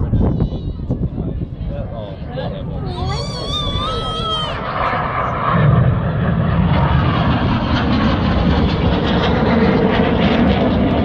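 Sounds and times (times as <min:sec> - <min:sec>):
jet aircraft roaring: 0:00.0 - 0:11.0.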